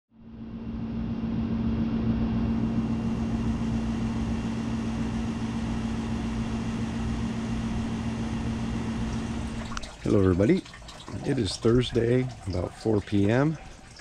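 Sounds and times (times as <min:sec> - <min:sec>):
motor humming: 0:00.3 - 0:14.0.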